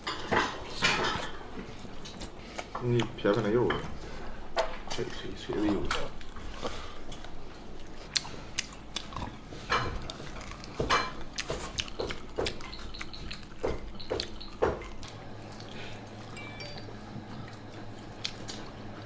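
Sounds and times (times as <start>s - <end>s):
people gnawing meat off bones: 0.6s - 3.6s, 4.5s - 19.0s.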